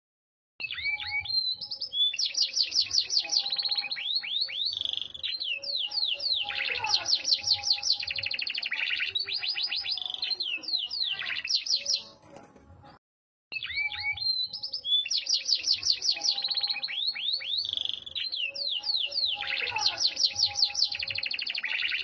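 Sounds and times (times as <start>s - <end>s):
canary singing trills: 0.6s - 12.2s, 13.5s - 22.0s.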